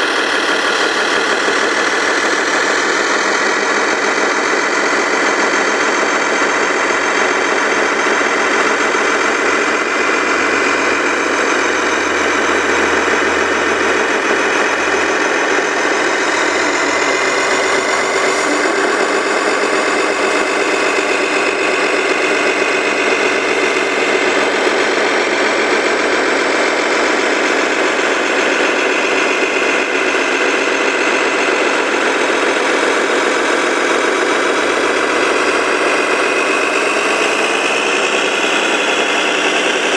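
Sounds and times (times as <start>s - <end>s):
radio-controlled vehicle engine idle: 0.0s - 39.9s.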